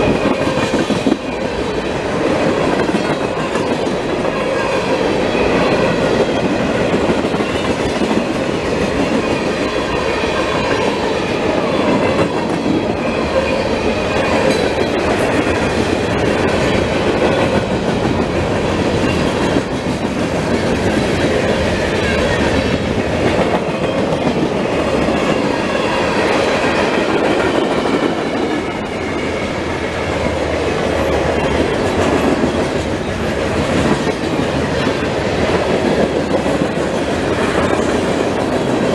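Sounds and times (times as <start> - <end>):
train cars clattering over rails: 0.0 - 38.9.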